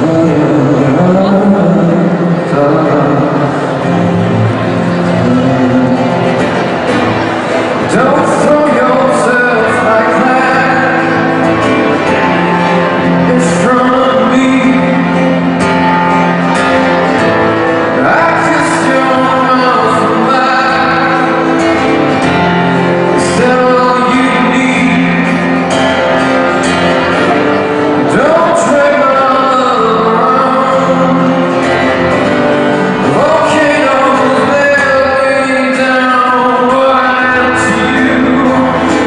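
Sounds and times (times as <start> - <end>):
man singing: 0.0 - 39.0.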